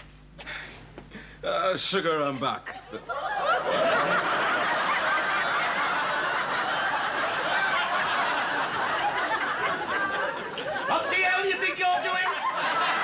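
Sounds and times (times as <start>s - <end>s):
audience laughing: 2.3s - 13.0s.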